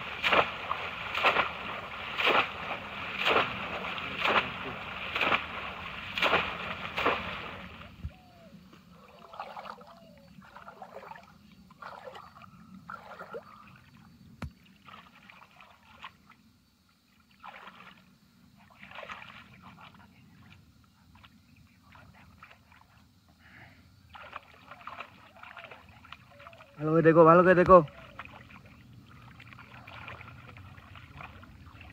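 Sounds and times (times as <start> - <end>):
traps splashing into water: 0.0 - 8.2, 9.0 - 16.4, 17.3 - 20.0, 24.1 - 31.9
water sloshing: 0.0 - 16.5, 17.1 - 23.2, 24.0 - 31.9.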